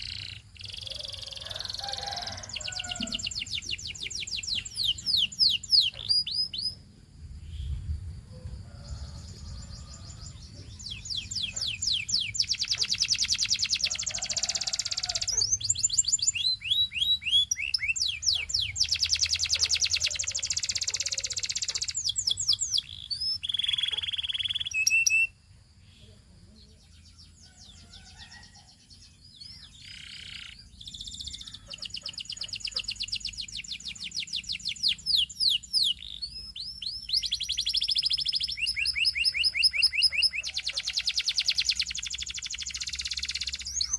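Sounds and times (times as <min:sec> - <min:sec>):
canary singing trills: 0:00.0 - 0:07.9, 0:08.7 - 0:43.9.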